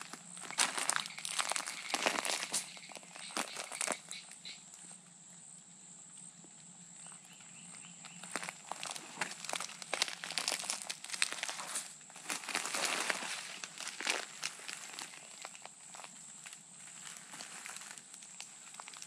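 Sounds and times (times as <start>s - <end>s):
footsteps crunching through dry leaves: 0.0s - 4.4s, 7.7s - 19.0s.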